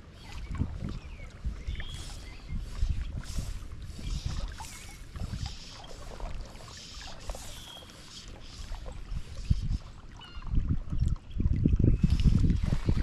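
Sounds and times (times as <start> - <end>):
river water splashing: 0.0 - 10.9.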